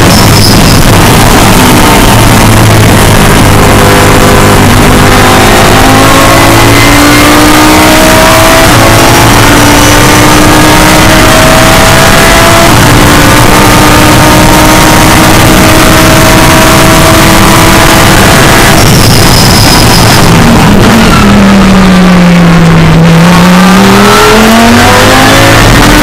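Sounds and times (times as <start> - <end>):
race car engine accelerating: 0.0 - 26.0.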